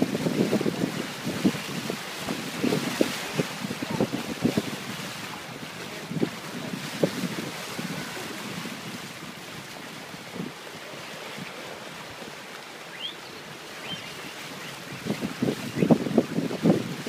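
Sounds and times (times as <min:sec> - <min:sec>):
choppy sea water around boat: 0:00.0 - 0:17.0
wind buffeting microphone: 0:00.0 - 0:17.0.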